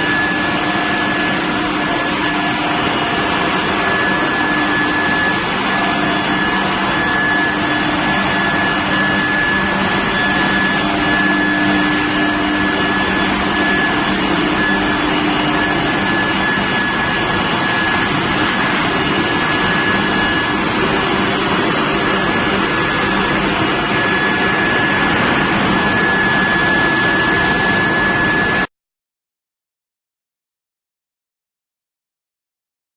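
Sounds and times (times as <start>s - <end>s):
furnace line high whine and hum: 0.0s - 28.7s.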